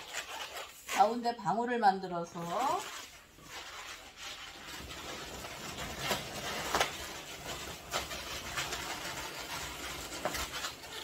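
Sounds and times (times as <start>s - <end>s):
balloon rubbing: 0.0s - 11.0s
balloon squeaking: 0.0s - 11.0s.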